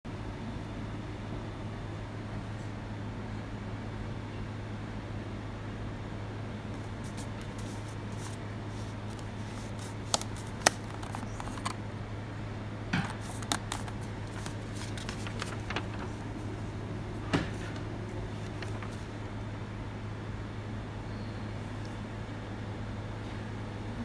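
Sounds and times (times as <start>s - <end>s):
steady low hum: 0.1s - 24.0s.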